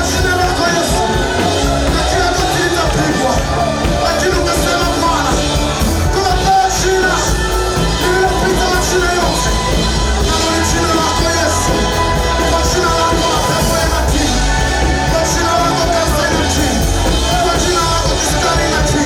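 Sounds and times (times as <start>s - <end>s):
instrumental backing: 0.0s - 19.0s
singers holding sustained notes: 0.0s - 19.0s
steady bass line: 0.0s - 19.0s.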